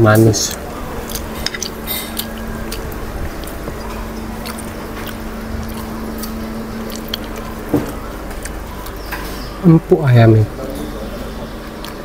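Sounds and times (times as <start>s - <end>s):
low steady hum: 0.0s - 12.0s
chewing: 0.5s - 9.6s, 11.5s - 12.0s.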